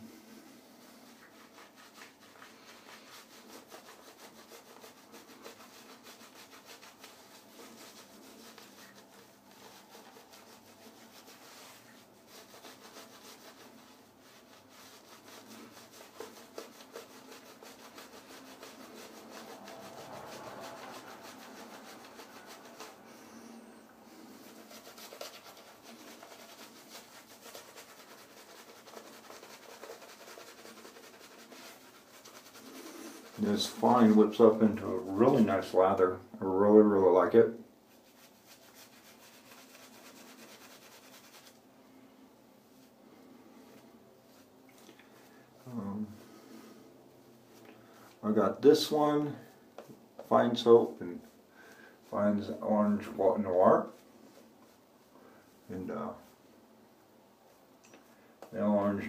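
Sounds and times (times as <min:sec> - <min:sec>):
shaving brush rubbing lather: 0:00.0 - 0:41.7, 0:42.8 - 0:44.5, 0:47.5 - 0:56.5, 0:57.5 - 0:59.0.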